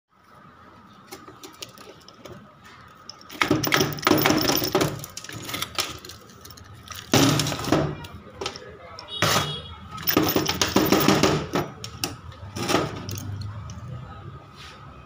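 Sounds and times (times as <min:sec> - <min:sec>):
metal parts clattering: 0:01.1 - 0:13.8.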